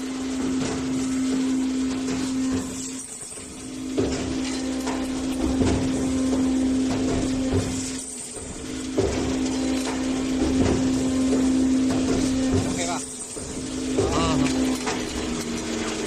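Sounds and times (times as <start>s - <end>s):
tube bending machine motor hum: 0.0s - 16.0s.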